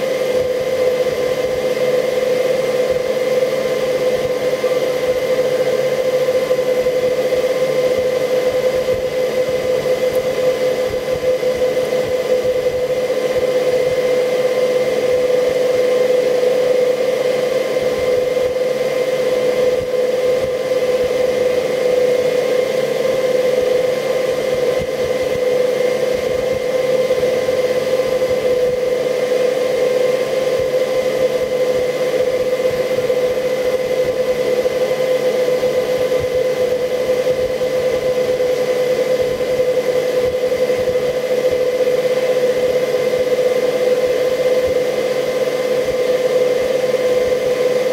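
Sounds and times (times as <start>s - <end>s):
fan humming: 0.0s - 47.9s.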